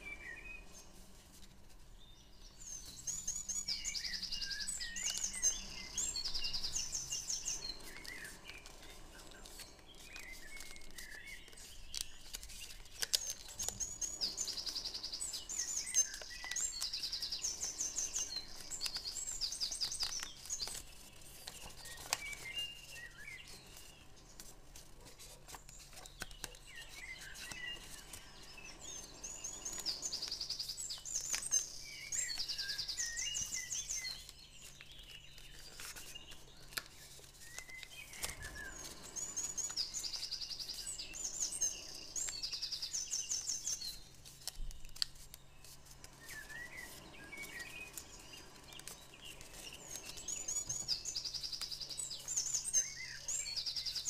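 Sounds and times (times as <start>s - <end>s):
songbird chirps and trills: 0.0s - 54.0s
paper crackling: 0.6s - 52.9s.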